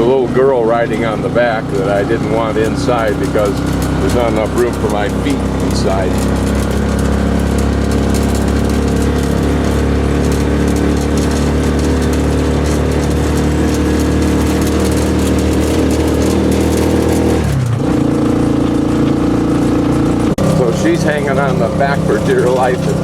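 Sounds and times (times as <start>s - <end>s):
rattle of shaky ride: 0.0s - 23.0s
small buggy engine running: 0.0s - 23.0s.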